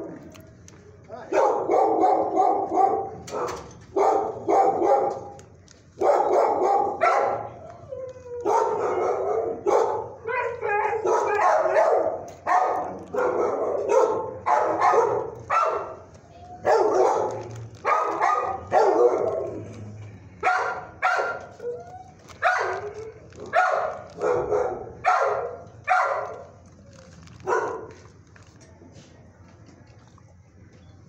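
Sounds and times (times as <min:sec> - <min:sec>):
dogs barking: 0:01.3 - 0:07.7, 0:08.4 - 0:26.6, 0:27.3 - 0:28.0.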